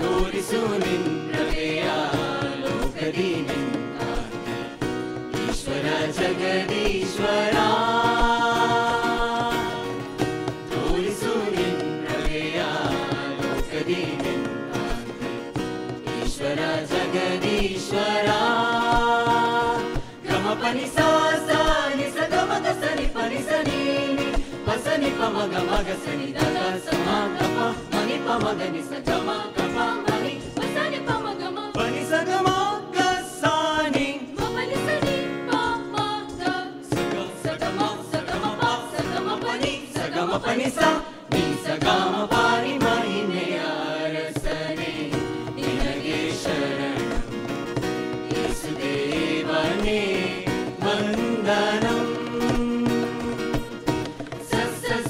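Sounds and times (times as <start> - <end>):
acoustic guitar: 0.0 - 55.0
vocal group singing in harmony: 0.0 - 55.0.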